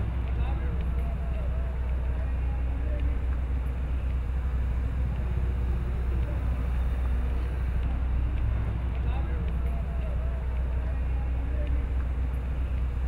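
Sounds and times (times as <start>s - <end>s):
faint voices: 0.0s - 13.0s
low outdoor rumble: 0.0s - 13.0s.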